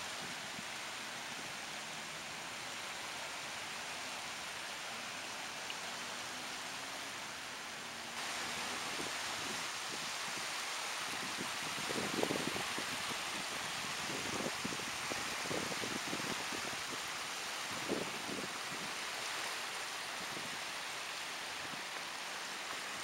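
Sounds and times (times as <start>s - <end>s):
moving water hiss: 0.0s - 23.0s.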